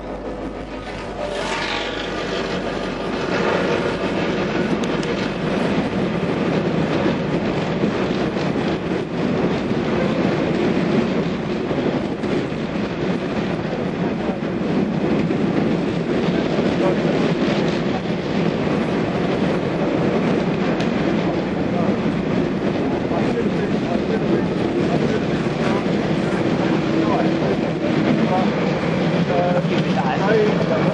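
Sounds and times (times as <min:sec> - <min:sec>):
rail joint clicks: 0:00.0 - 0:30.9
train wheels rumbling on rails: 0:00.0 - 0:30.9.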